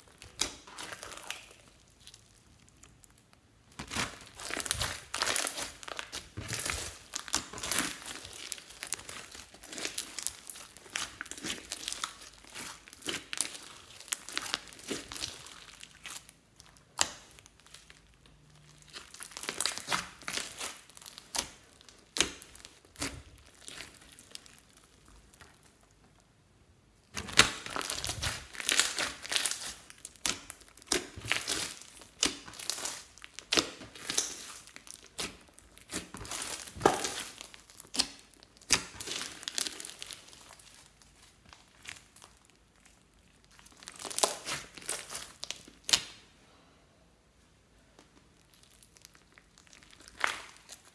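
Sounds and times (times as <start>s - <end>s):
slime crackling and squishing: 0.0s - 46.3s, 47.8s - 50.9s.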